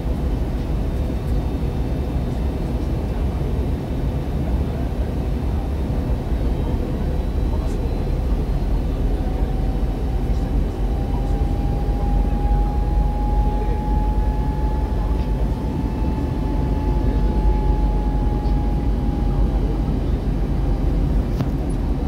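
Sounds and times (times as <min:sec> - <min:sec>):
airliner cabin engine rumble: 0:00.0 - 0:22.0
faint whine: 0:00.0 - 0:22.0.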